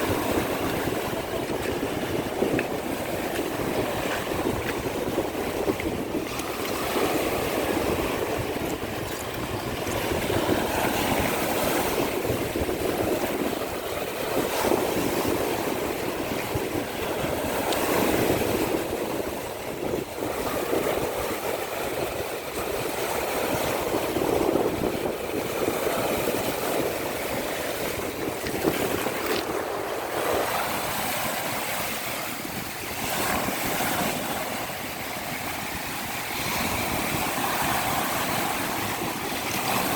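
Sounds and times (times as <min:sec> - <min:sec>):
surf washing onto a beach: 0:00.0 - 0:39.9
wind rumbling on microphone: 0:00.0 - 0:39.9.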